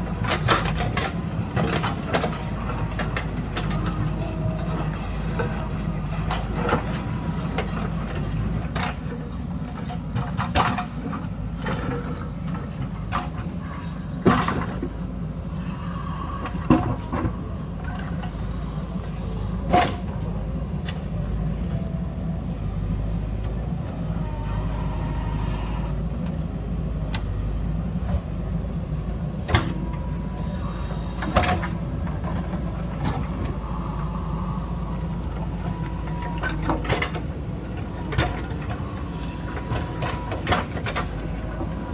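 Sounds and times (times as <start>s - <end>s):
diesel machine droning: 0.0s - 41.9s.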